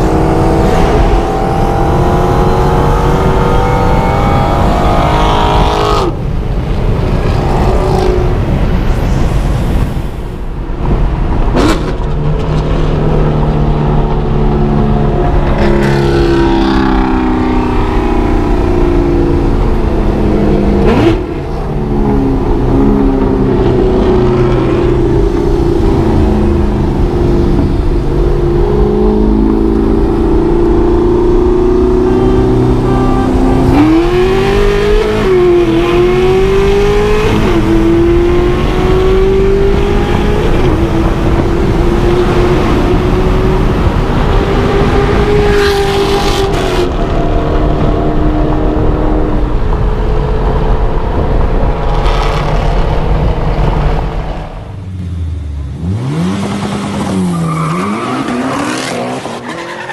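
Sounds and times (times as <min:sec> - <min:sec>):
car engine under full throttle: 0:00.0 - 0:59.9.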